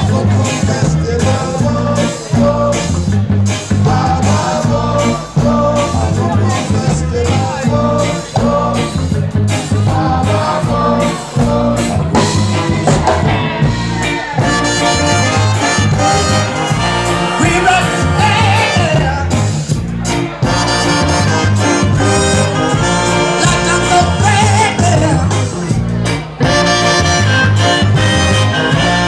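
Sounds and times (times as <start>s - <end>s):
person singing: 0.0s - 19.6s, 20.2s - 29.0s
ska band playing: 0.0s - 29.0s.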